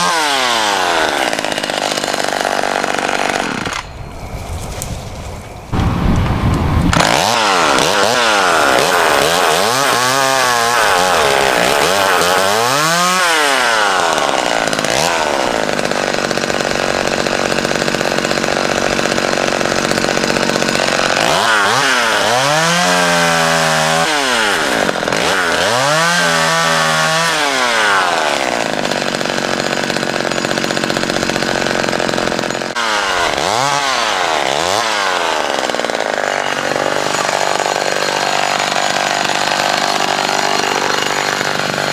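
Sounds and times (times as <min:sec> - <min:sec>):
chainsaw cutting branches: 0:00.0 - 0:05.0, 0:05.7 - 0:41.9.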